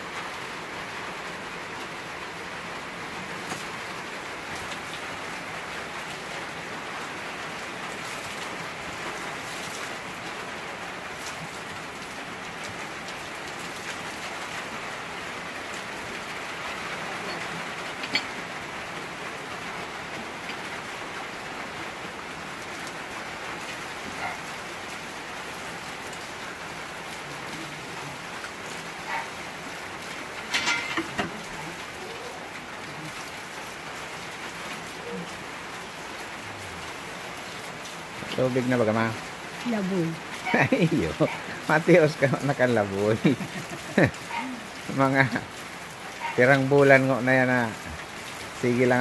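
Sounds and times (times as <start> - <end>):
falling water splashing: 0.0 - 49.0.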